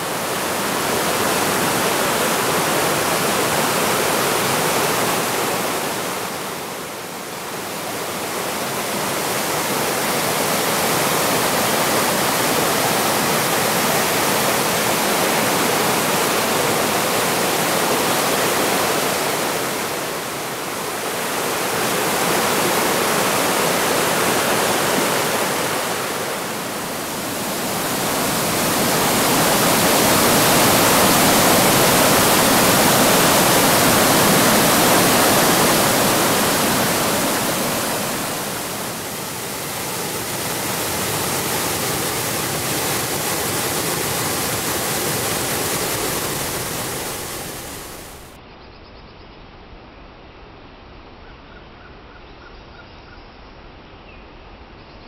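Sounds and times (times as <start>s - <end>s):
waterfall rushing: 0.0s - 48.4s.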